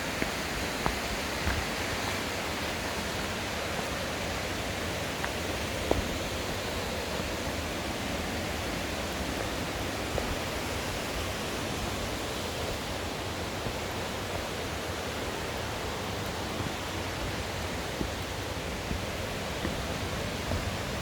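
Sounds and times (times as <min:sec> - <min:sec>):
mountain stream and waterfall rushing: 0:00.0 - 0:21.0.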